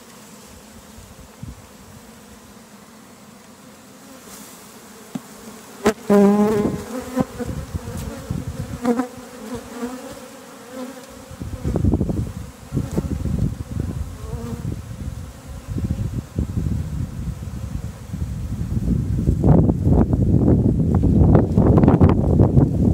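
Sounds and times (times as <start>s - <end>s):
bee swarm buzzing: 0.0s - 22.9s.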